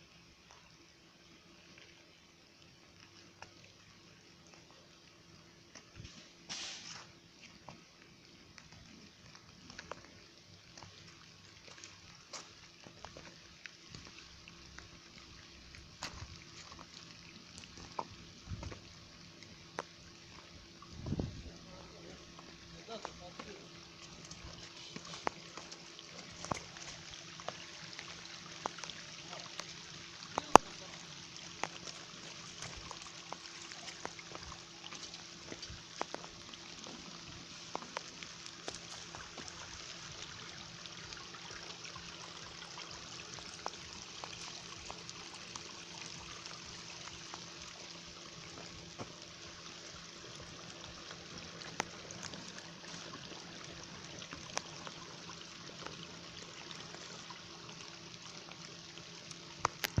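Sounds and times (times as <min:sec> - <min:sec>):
stream trickling: 0:00.0 - 1:00.0.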